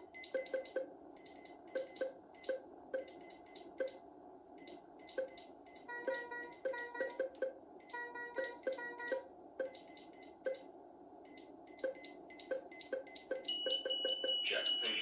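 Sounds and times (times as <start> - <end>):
patient monitor alarm beeps: 0.0 - 4.0, 4.6 - 15.0.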